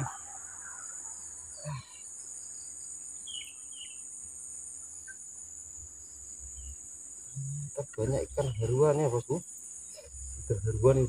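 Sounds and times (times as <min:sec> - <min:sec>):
bird chirps: 0:00.0 - 0:05.4, 0:06.0 - 0:11.0
insect chorus drone: 0:00.0 - 0:11.0.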